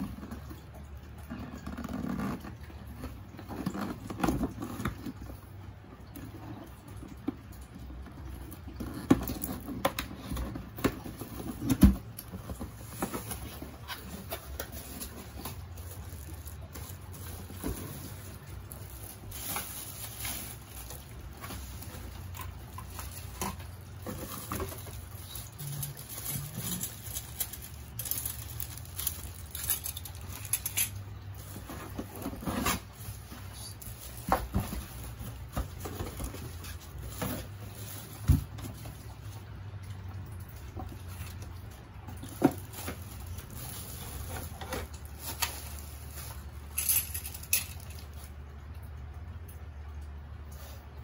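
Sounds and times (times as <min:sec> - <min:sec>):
plastic packaging crinkling: 0:00.0 - 0:48.7
plastic-wrapped parts handled: 0:00.0 - 0:48.7.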